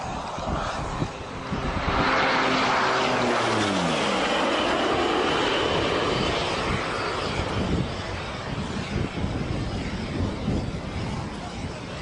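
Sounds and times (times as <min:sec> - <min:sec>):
turboprop aircraft flying past: 0:00.0 - 0:12.0.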